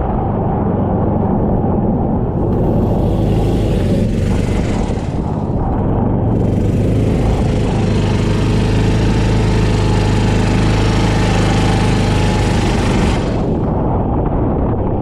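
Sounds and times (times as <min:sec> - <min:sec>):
kart engine droning: 0:00.2 - 0:14.4.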